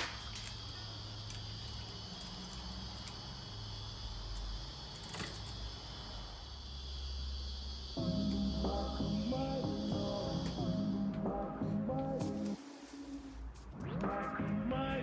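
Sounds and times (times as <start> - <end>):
steady low hum: 0.2 - 13.5.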